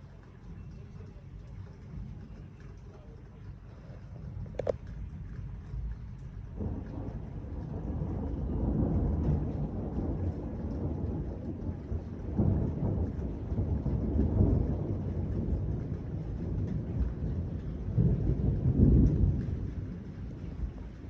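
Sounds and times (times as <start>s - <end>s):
rain falling: 0.0s - 21.0s
thunder rumbling: 0.0s - 21.0s.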